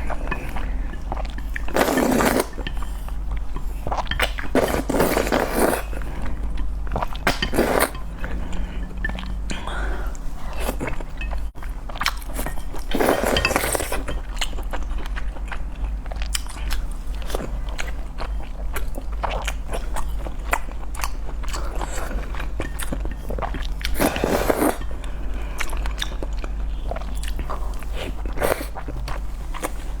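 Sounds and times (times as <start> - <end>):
person chewing noodles: 0.0 - 30.0
steady low hum: 0.0 - 30.0.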